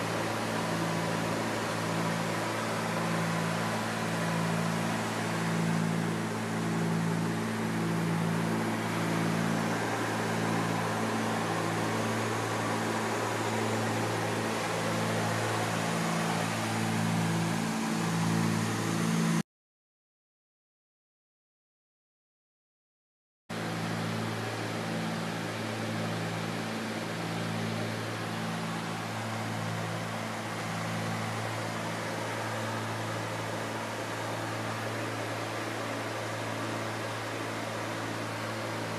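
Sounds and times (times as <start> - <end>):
propeller engines droning: 0.0 - 19.4, 23.5 - 38.9.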